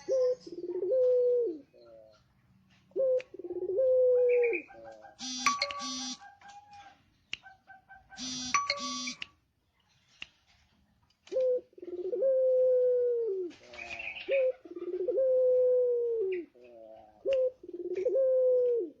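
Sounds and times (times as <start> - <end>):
dove cooing: 0.0 - 8.6, 11.3 - 19.0.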